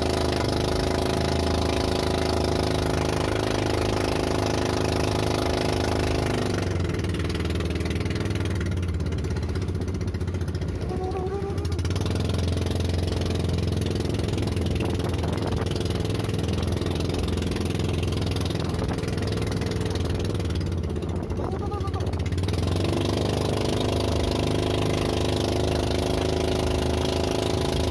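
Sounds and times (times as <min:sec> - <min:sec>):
boat engine droning: 0:00.0 - 0:27.9.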